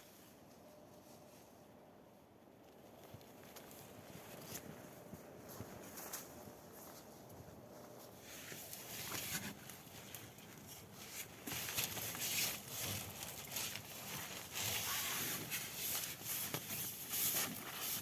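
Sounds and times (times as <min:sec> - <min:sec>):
rustling and crunching: 0:02.6 - 0:18.0.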